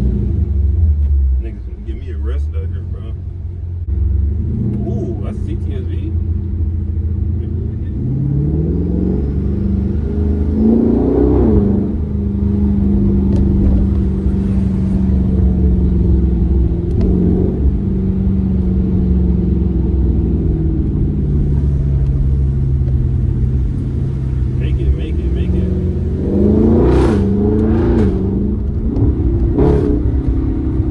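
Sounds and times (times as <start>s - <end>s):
car engine accelerating: 0.0s - 30.9s.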